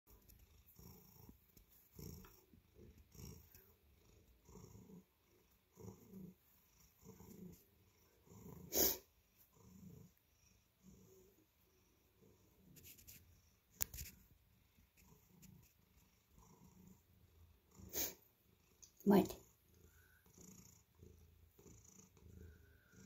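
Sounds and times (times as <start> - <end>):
cat purring: 0.1 - 23.0.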